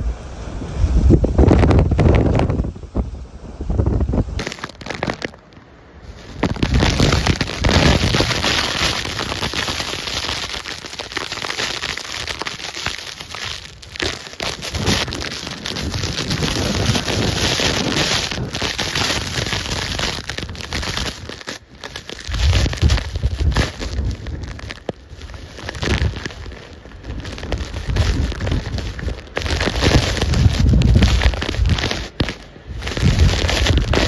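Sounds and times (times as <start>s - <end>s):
howling hurricane wind: 0.0s - 34.0s
driving rain pelting: 4.4s - 34.0s.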